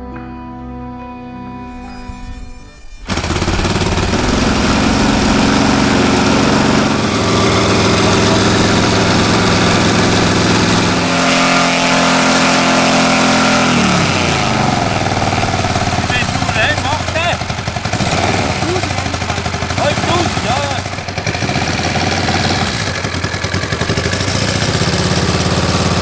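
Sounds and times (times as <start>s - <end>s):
model plane engine running: 1.8s - 26.0s.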